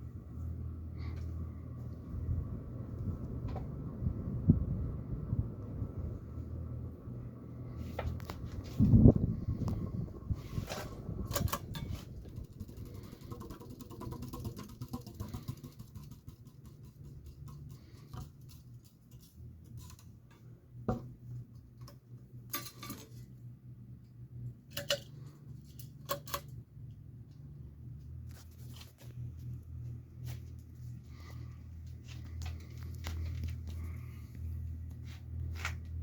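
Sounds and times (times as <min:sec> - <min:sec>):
ceiling fan motor hum: 0:00.0 - 0:36.0.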